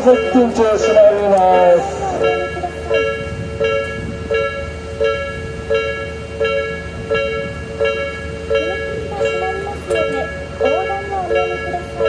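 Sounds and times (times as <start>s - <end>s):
level crossing warning bell: 0.0s - 12.0s.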